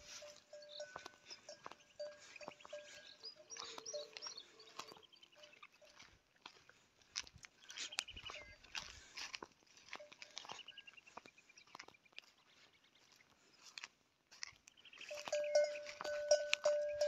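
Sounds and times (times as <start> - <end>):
birds chirping and trilling: 0.0 - 13.8, 14.6 - 17.0.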